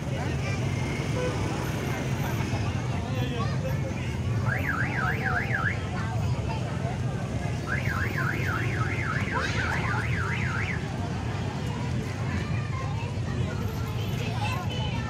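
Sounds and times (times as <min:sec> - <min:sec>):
crowd and traffic rumble: 0:00.0 - 0:15.0.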